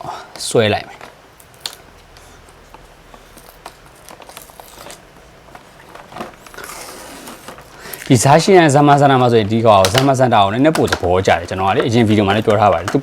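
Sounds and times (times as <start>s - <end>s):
packaging clicks and rustles: 0.4s - 13.0s.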